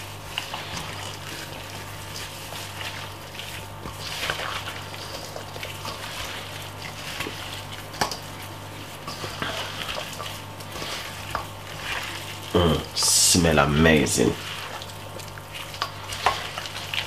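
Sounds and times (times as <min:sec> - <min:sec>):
wet squelching of marinated meat: 0:00.0 - 0:17.0.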